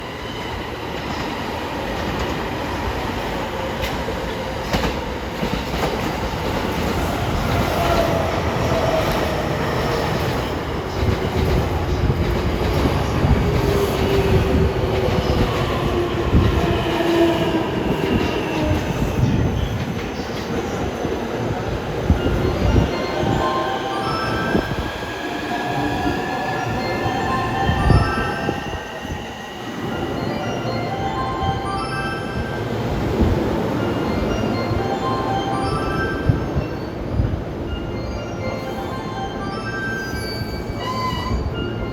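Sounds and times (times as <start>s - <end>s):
electric train rumble: 0.0s - 41.9s.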